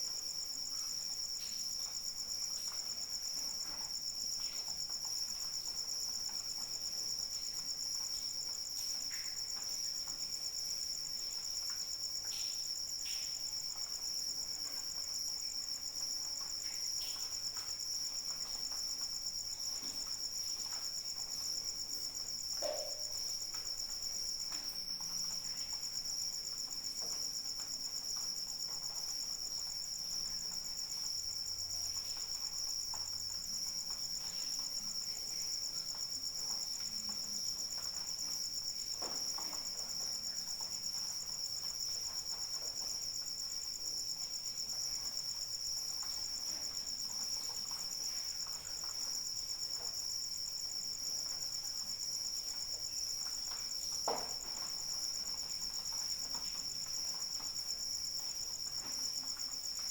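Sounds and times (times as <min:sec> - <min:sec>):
crickets chirring: 0:00.0 - 0:59.9.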